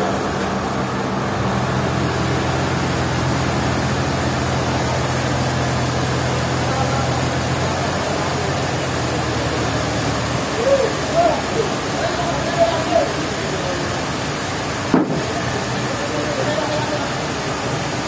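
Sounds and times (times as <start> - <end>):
forklift engine running: 0.0 - 18.0.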